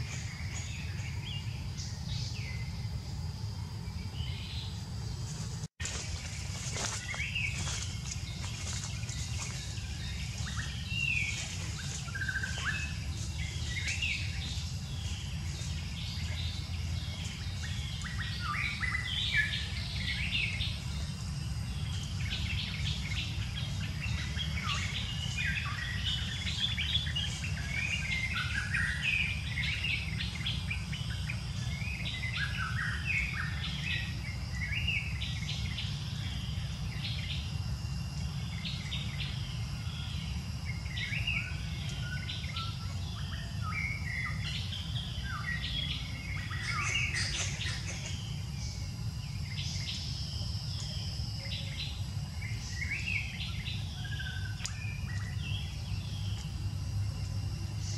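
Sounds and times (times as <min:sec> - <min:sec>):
birds chirping and calling: 0:00.0 - 0:37.4, 0:38.4 - 0:56.5
steady low rumble: 0:00.0 - 0:57.9.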